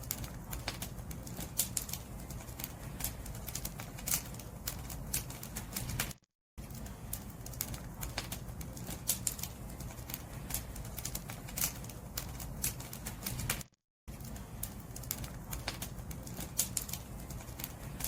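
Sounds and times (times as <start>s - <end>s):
bonfire crackling and popping: 0.0s - 18.0s
low rumble of flames: 0.0s - 18.0s.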